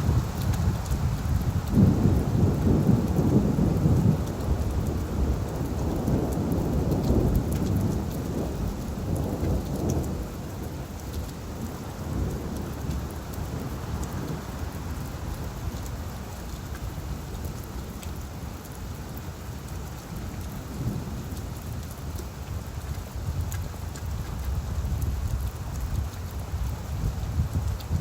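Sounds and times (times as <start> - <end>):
low rumble of thunder: 0.0 - 28.0
rain falling on leaves: 0.0 - 28.0
raindrop ticks: 0.1 - 28.0.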